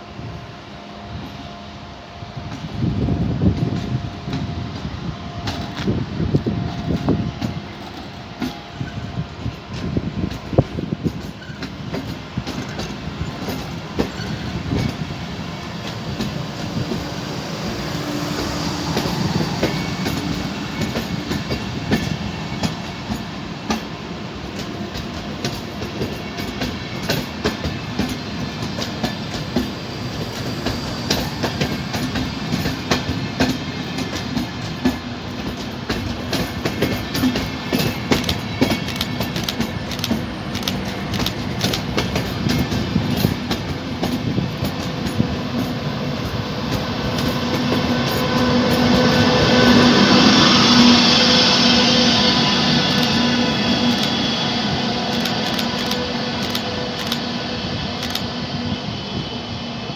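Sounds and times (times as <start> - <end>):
train rumble: 0.0 - 59.9
train wheels clattering on track: 2.3 - 59.9.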